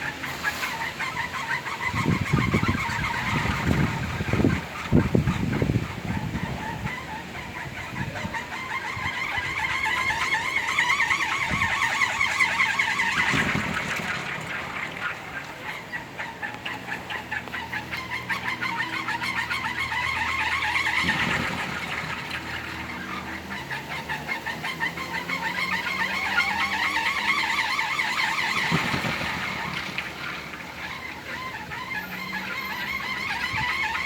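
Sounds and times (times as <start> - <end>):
wind propeller whirring: 0.0 - 34.0.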